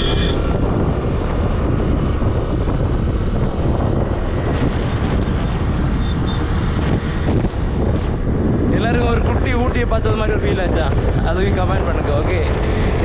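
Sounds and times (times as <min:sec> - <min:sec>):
vehicle running and road noise: 0:00.0 - 0:13.0
wind rushing over microphone: 0:00.0 - 0:13.0.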